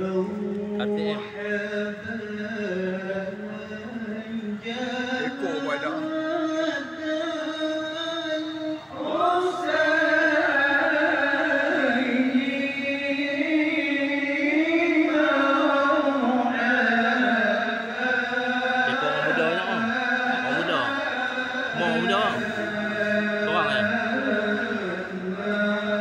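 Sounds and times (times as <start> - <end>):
men chanting together: 0.0 - 26.0.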